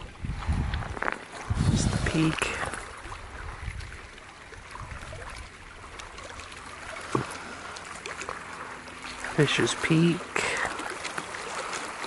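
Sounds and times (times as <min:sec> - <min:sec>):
water and ice trickling: 0:00.0 - 0:12.0.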